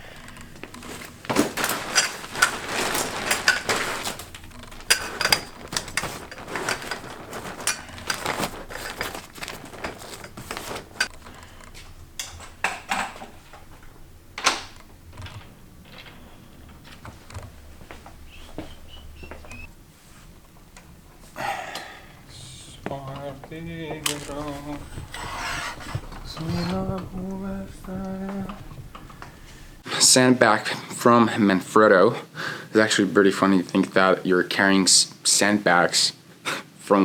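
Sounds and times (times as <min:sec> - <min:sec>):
clicks and knocks: 0:00.0 - 0:29.8
gear rustling and clattering: 0:00.0 - 0:29.9.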